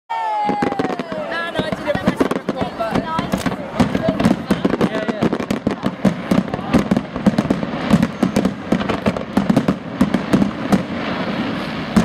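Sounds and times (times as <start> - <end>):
firework shells bursting: 0.5 - 12.0.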